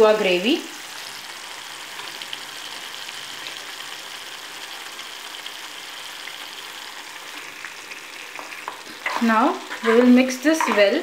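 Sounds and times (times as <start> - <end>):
gravy simmering and sizzling: 0.0 - 11.0.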